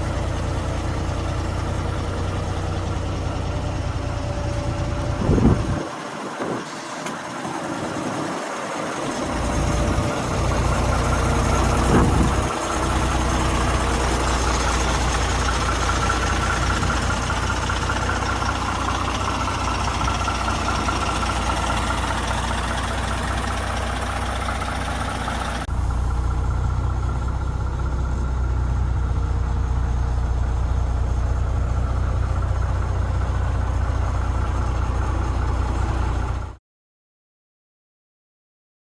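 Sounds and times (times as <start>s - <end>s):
truck diesel engine idling: 0.0s - 36.6s.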